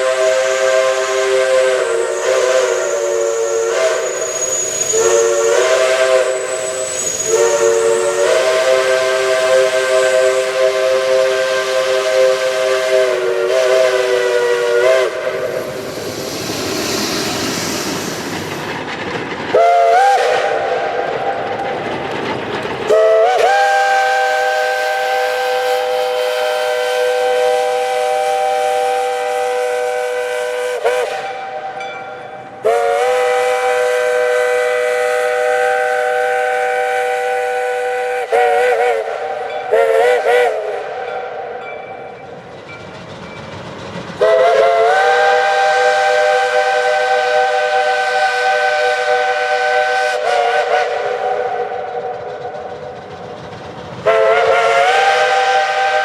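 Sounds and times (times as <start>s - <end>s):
steam locomotive chime whistle: 0.0s - 18.4s, 19.6s - 21.4s, 22.9s - 43.6s, 44.2s - 53.0s, 54.0s - 56.0s.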